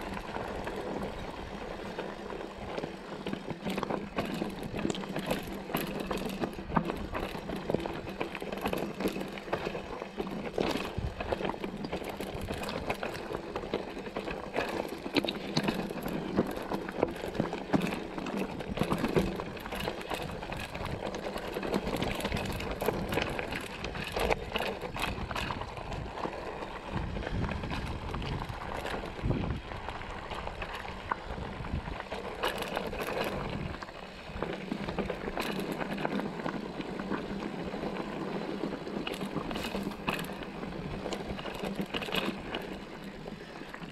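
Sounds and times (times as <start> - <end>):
bike clattering and rattling: 0.0 - 43.9
tyres crunching over loose stones: 0.0 - 43.9.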